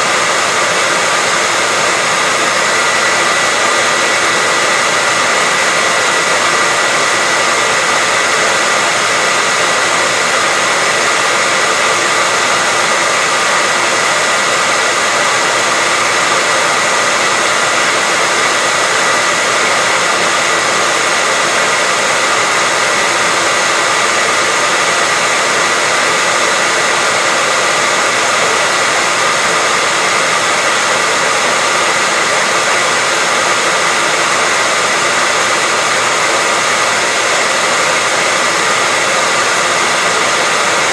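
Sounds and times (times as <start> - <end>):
hairdryer running: 0.0 - 40.9.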